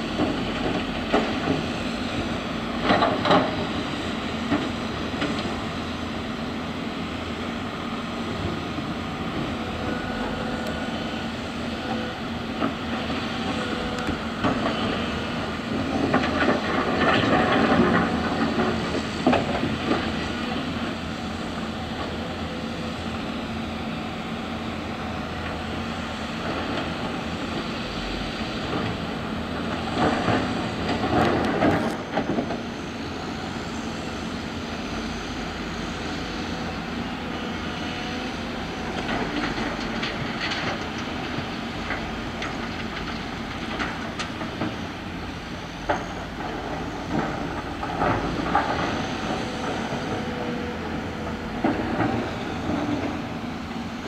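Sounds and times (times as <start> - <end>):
diesel engine drone: 0.0 - 54.0.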